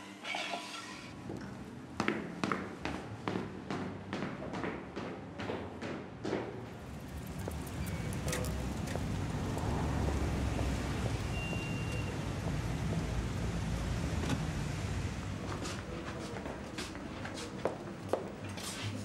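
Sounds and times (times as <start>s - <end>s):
traffic rumble: 1.2s - 19.0s.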